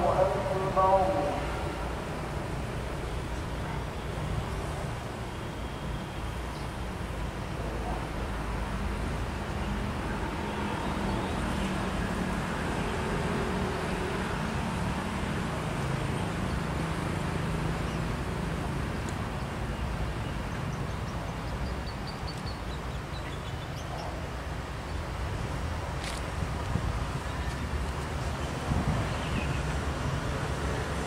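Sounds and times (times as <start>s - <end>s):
traffic rumble: 0.0s - 31.0s.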